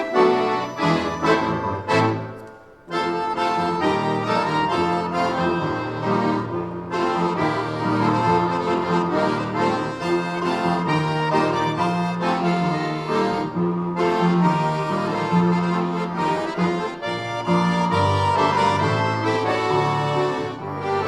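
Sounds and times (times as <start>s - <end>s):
accordion ensemble playing chords: 0.0s - 21.0s.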